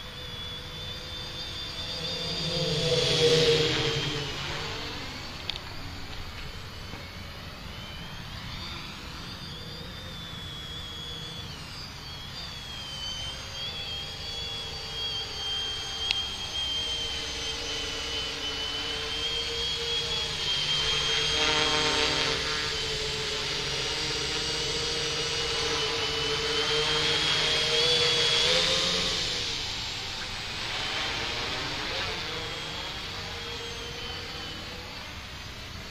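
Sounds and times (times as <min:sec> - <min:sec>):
quadcopter propellers whining: 0:00.0 - 0:35.9.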